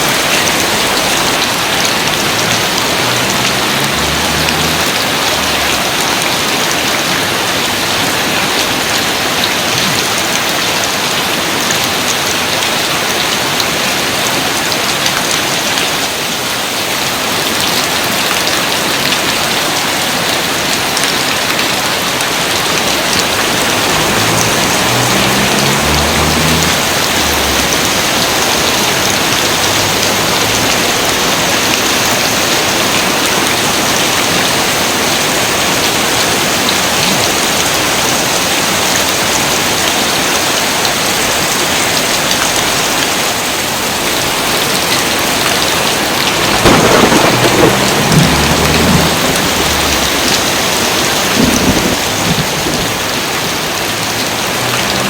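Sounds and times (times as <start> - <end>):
dense rain hiss: 0.0 - 55.0.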